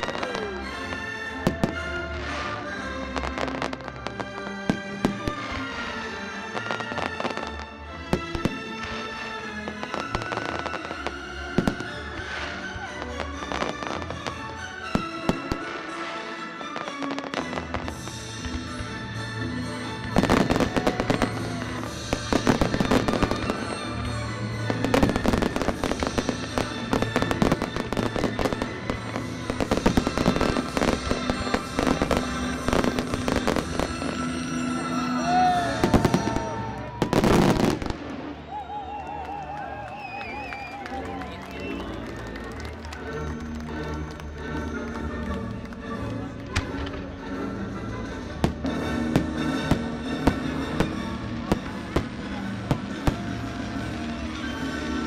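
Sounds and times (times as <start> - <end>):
fireworks bursting and crackling: 0.0 - 38.7, 48.3 - 55.0
music: 0.0 - 55.0.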